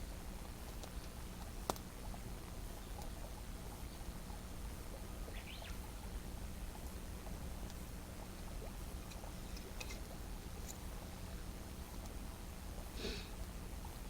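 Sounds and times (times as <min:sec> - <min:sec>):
low steady rumble: 0:00.0 - 0:14.0
campfire crackling: 0:00.1 - 0:13.9.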